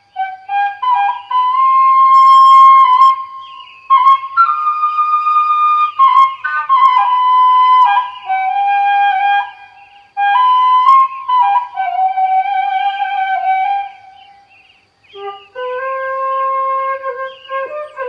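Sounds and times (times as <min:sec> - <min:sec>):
solo flute melody: 0:00.0 - 0:14.4, 0:15.1 - 0:18.0.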